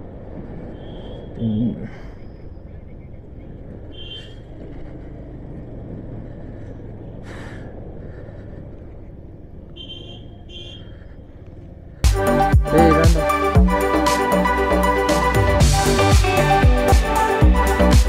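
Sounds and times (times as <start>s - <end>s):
motorcycle engine rumble: 0.0s - 18.0s.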